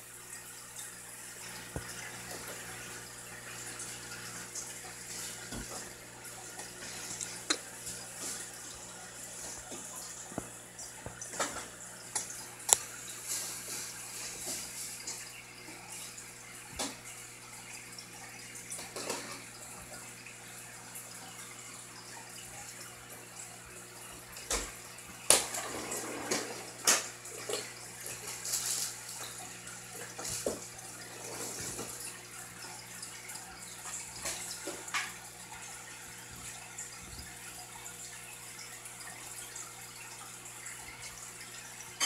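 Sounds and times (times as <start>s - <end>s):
water trickling into a tank: 0.0s - 42.0s.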